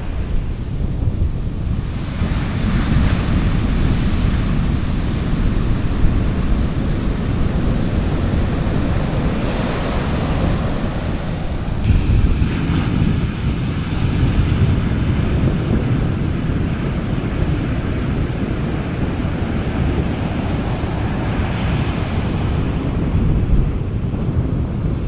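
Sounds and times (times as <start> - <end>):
sea waves washing onto beach: 0.0 - 25.0
wind buffeting microphone: 0.0 - 25.0.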